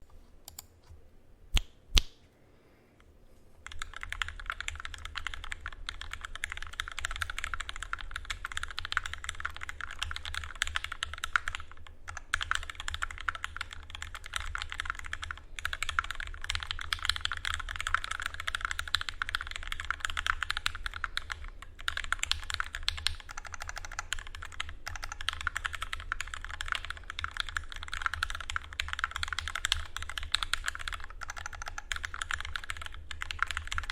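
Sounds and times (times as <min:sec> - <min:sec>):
mechanical keyboard typing: 0:03.6 - 0:33.9.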